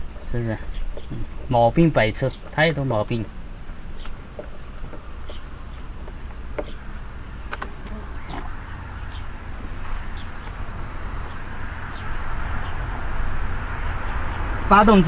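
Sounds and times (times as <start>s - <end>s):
faint clicks: 0.0s - 12.2s
insects chirping: 0.0s - 15.0s.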